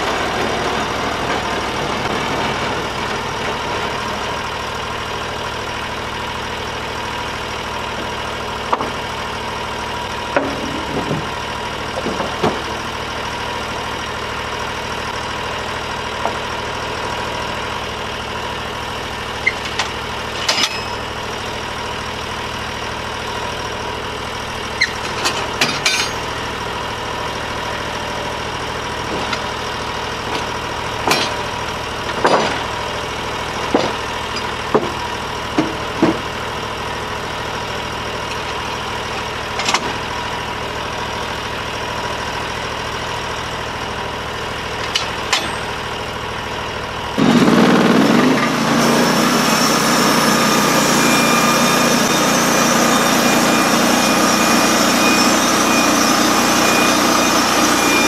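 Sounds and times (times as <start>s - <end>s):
sawmill engine idling: 0.0s - 58.0s.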